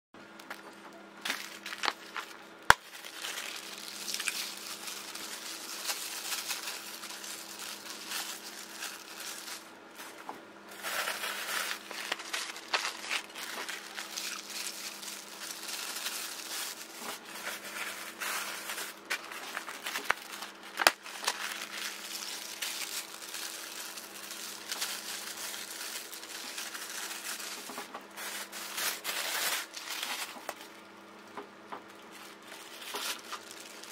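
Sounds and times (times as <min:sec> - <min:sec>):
faint steady hum: 0:00.2 - 0:33.9
plastic bag crinkling: 0:00.4 - 0:33.9.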